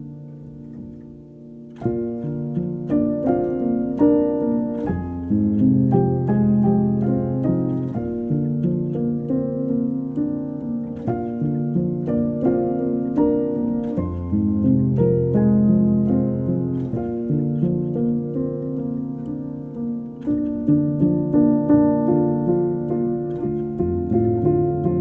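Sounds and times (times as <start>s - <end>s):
gentle solo piano melody: 0.0s - 25.0s.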